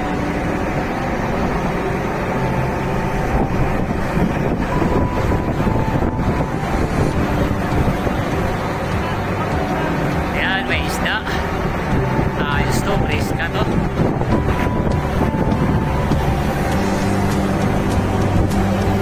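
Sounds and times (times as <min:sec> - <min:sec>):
boat engine rumble: 0:00.0 - 0:19.0
rushing water: 0:00.0 - 0:19.0
wind on microphone: 0:00.0 - 0:19.0.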